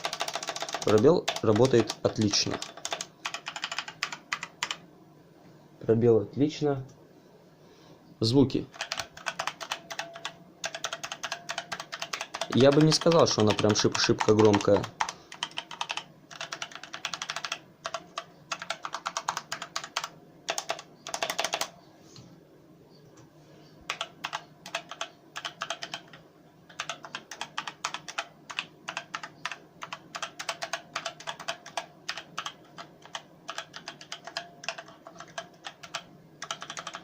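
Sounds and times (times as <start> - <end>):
mechanical keyboard typing: 0.0 - 4.8, 8.7 - 21.7, 23.9 - 37.0.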